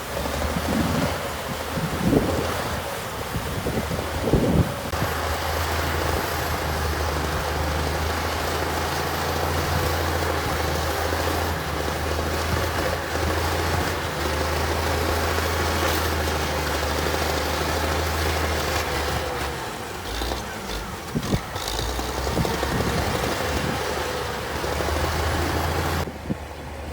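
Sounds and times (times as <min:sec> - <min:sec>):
diesel engine droning: 0:00.0 - 0:26.9.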